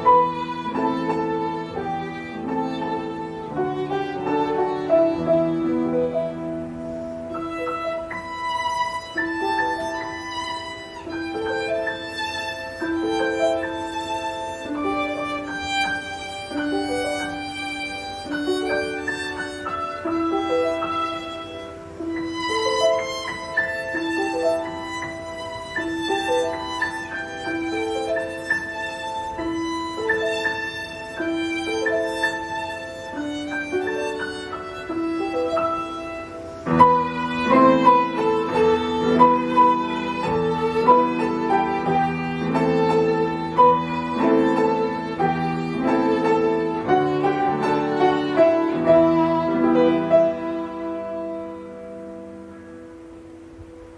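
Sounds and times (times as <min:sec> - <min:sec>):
violin playing slow melody: 0:00.0 - 0:53.9.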